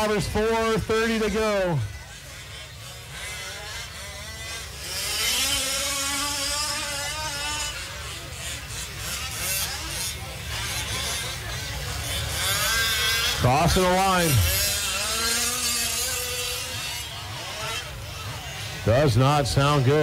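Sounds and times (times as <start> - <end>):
small two-stroke engines revving: 0.0 - 20.0.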